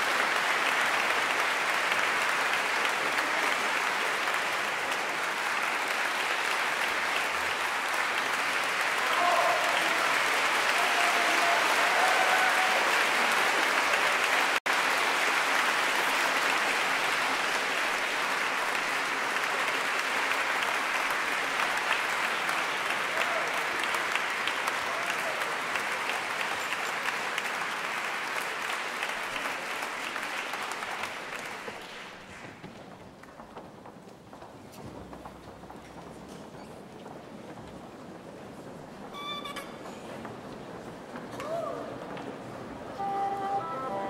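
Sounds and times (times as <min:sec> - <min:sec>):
audience applauding: 0:00.0 - 0:39.4.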